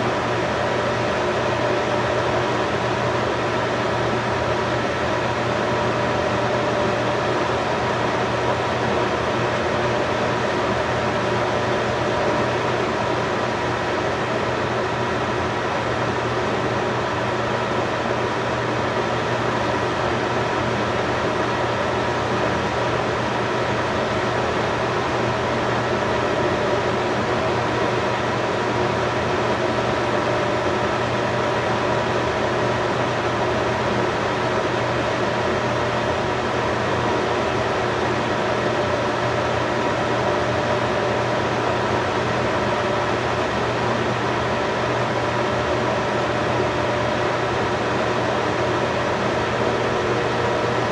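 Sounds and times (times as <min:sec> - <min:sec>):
mechanical hum with hiss: 0:00.0 - 0:50.9.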